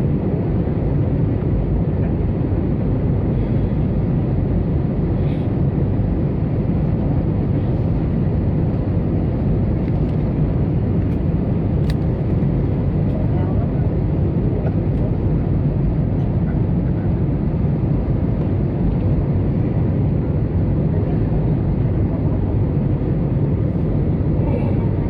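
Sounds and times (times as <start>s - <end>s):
jet engine rumble: 0.0s - 25.0s.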